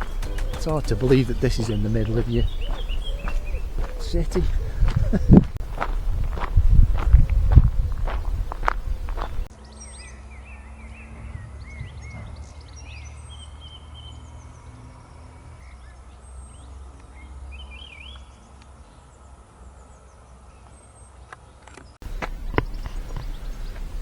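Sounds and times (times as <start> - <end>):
songbirds singing and calling: 0.0 - 14.7, 15.4 - 19.1, 19.8 - 24.0.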